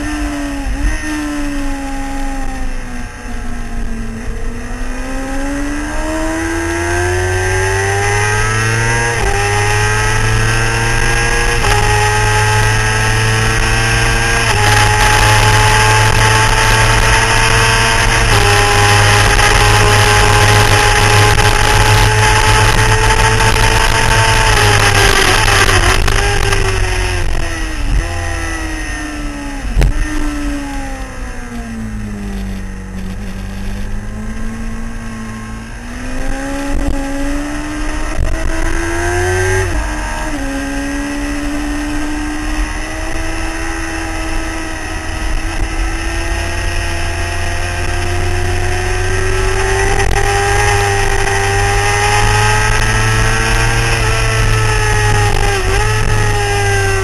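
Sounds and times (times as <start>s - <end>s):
motorcycle engine revving: 0.0s - 57.0s
wind rumble on microphone: 2.4s - 57.0s.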